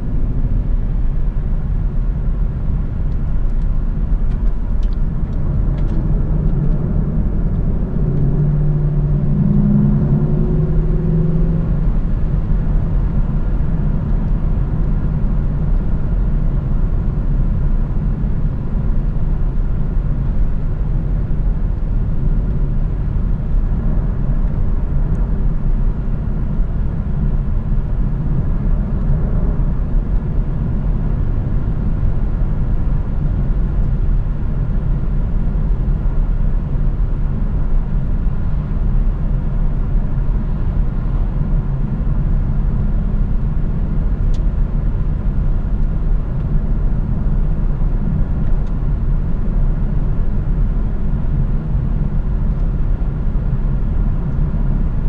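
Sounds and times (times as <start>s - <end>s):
wind tyre and engine rumble: 0.0s - 55.0s.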